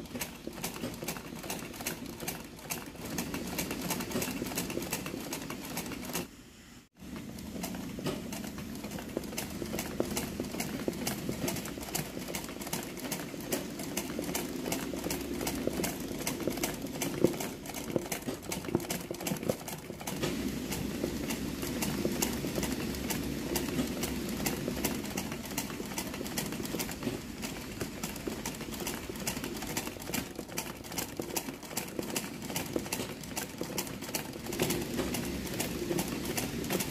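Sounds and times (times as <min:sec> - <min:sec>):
sewing machine running: 0:00.0 - 0:06.3, 0:07.0 - 0:36.9.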